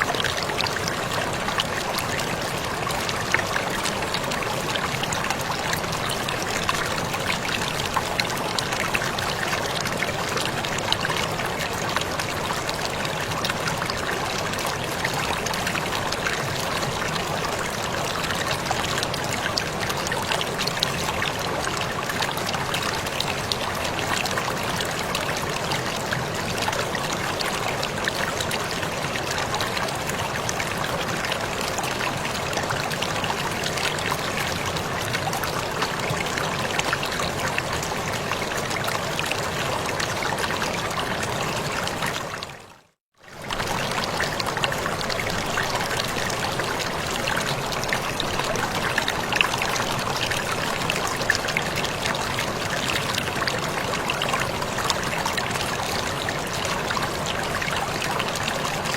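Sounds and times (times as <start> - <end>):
waterfall rushing and splashing: 0.0 - 42.5, 43.5 - 58.9.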